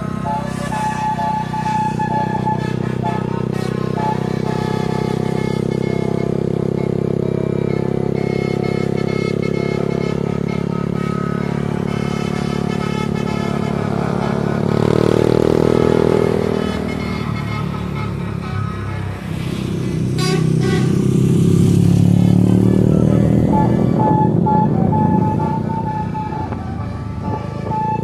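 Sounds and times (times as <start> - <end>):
bus engine running: 0.0 - 28.0
multi-tone bus air horn: 0.0 - 28.0.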